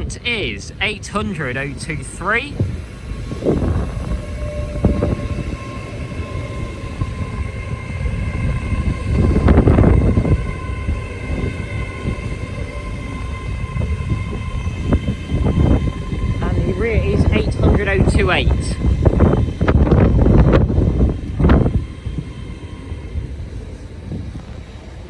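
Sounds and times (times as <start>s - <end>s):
train rumbling and whining: 0.0s - 25.0s.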